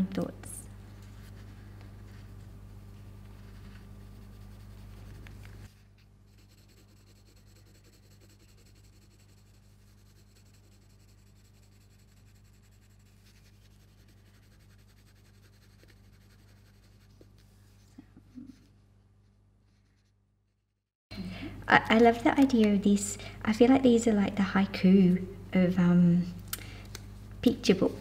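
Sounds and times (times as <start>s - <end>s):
low electrical hum: 0.0s - 20.1s, 21.1s - 28.0s.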